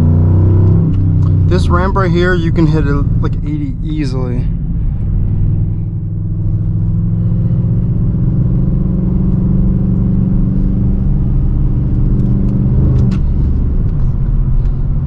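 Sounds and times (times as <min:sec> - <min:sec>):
car engine drone inside cabin: 0:00.0 - 0:15.0.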